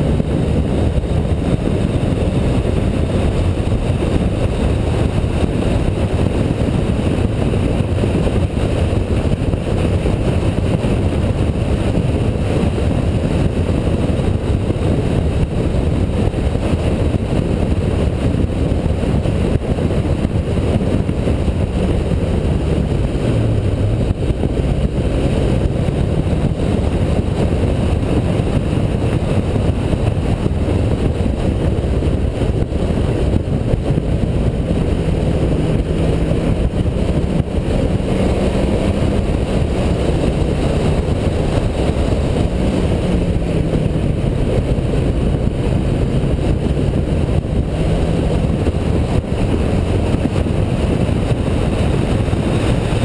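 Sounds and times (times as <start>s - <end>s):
car engine revving: 0.0s - 53.0s
wind and road noise: 0.0s - 53.0s.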